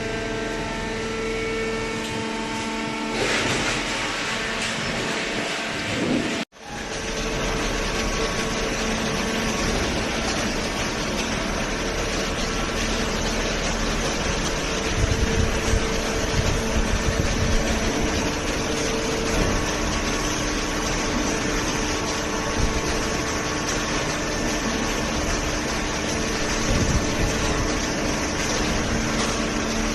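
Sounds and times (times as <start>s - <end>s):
hydraulic pump humming: 0.0s - 29.9s.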